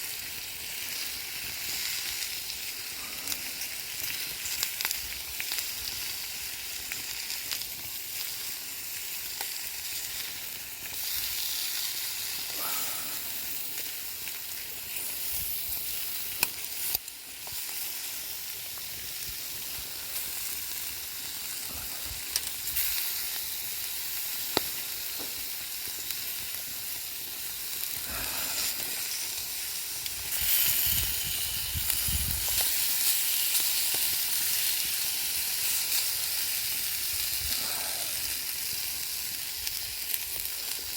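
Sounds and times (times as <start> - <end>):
campfire crackling: 0.0 - 40.9
food sizzling in a pan: 0.0 - 40.9.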